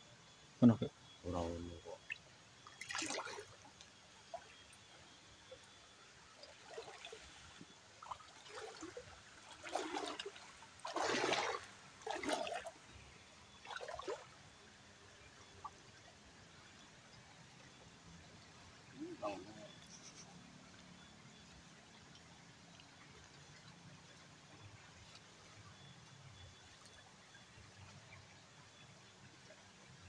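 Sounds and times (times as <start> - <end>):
stream water splashing: 1.8 - 29.8.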